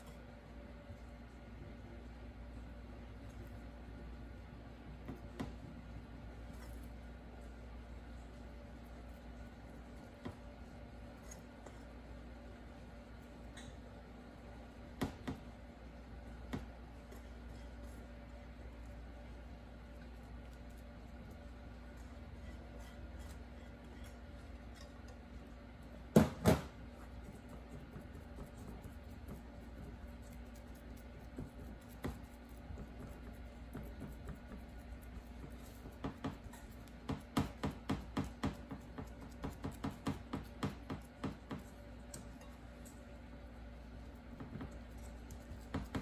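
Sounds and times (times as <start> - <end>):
low room hum: 0.0 - 46.0.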